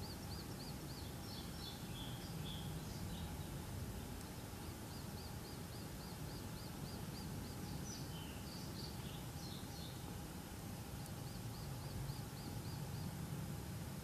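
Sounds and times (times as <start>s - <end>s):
small birds chirping: 0.0s - 13.3s.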